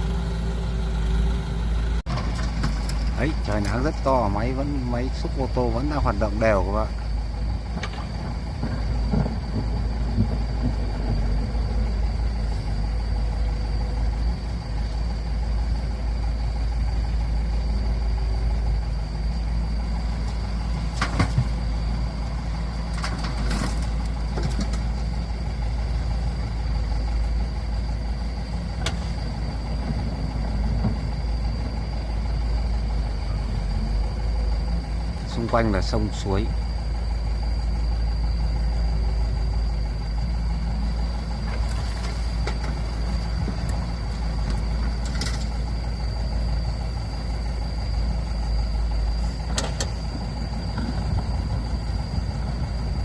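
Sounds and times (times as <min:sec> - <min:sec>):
excavator and truck engines rumbling: 0:00.0 - 0:53.0.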